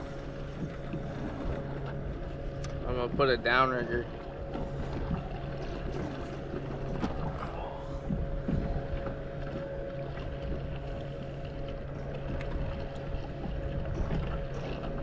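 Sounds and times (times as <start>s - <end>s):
steady low hum: 0.0s - 15.0s
water lapping against hull: 0.0s - 15.0s.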